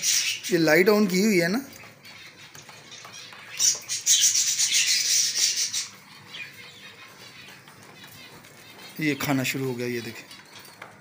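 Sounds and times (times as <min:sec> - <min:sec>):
pigeons pecking and rustling: 0:00.0 - 0:11.0.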